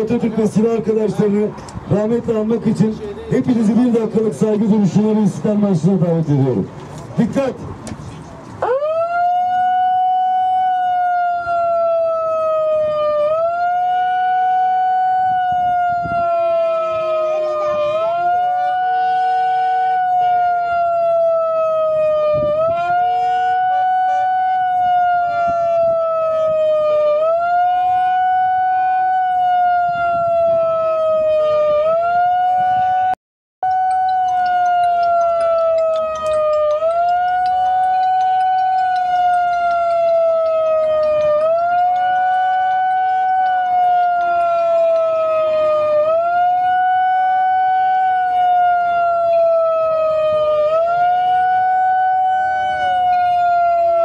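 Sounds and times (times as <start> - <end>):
siren wailing: 8.6 - 54.0.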